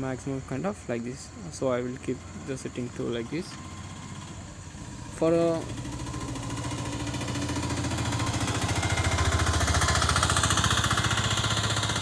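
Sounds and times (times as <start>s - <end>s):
motor pulsing rattle: 2.0s - 12.0s.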